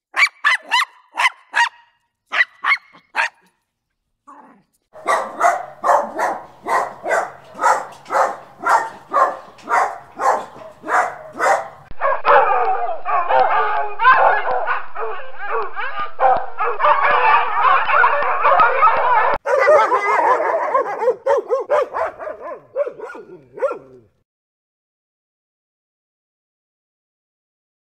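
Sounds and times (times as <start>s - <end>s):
dog barking: 0.1s - 3.6s, 4.4s - 24.1s
several dogs barking and yapping: 0.1s - 3.6s, 4.4s - 24.1s.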